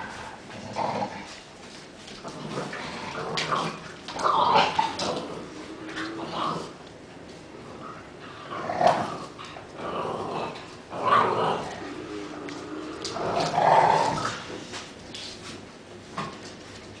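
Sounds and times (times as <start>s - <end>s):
dogs growling in play: 0.0s - 16.4s.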